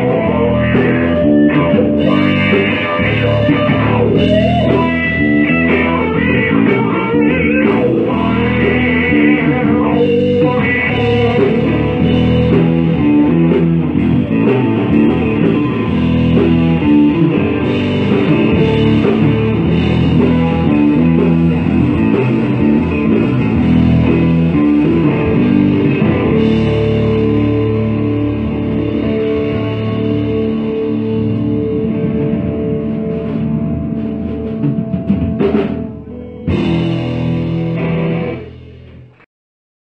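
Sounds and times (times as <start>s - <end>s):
drum kit: 0.0s - 39.2s
bass guitar: 0.0s - 39.3s
electric guitar: 0.0s - 39.3s.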